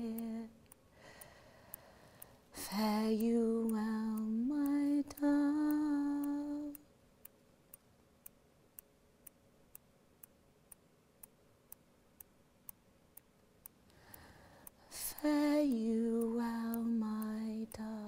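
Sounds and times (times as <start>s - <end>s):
faint steady ticking: 0.0s - 18.0s.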